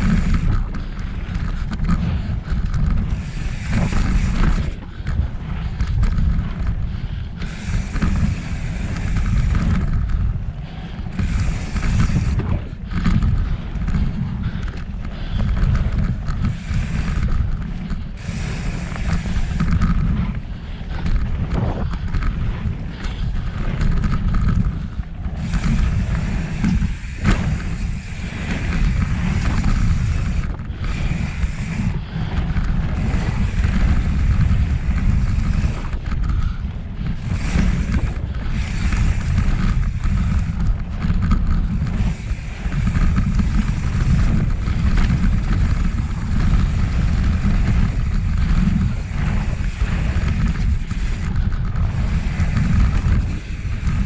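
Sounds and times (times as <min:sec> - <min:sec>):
wind rumbling over microphone: 0:00.0 - 0:54.0.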